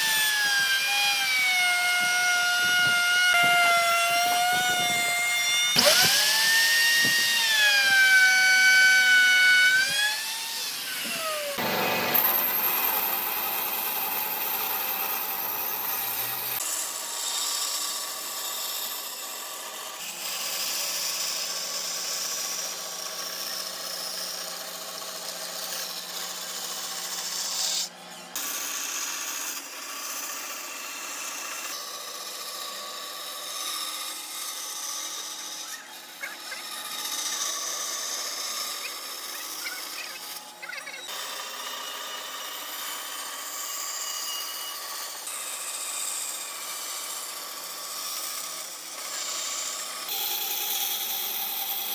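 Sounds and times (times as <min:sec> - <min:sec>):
bandsaw cutting wood: 0:00.0 - 0:51.9
power tool cutting wood: 0:00.0 - 0:51.9.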